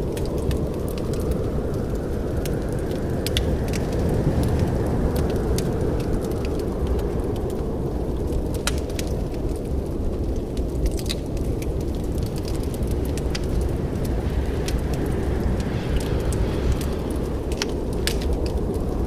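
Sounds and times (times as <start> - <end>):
low rumble of burning: 0.0 - 19.0
wood fire crackling and popping: 0.0 - 19.0.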